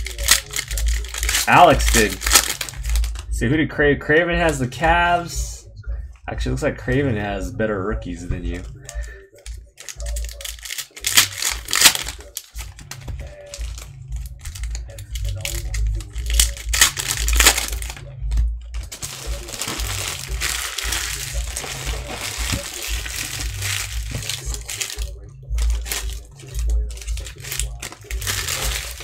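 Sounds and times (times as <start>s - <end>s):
trading card packs crinkling: 0.0s - 3.3s, 8.5s - 29.0s.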